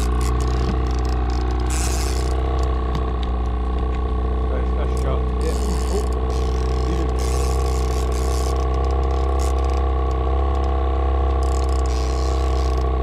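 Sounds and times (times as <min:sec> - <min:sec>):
fishing reel ratcheting: 0:00.0 - 0:02.7, 0:04.9 - 0:13.0
boat motor droning: 0:00.0 - 0:13.0.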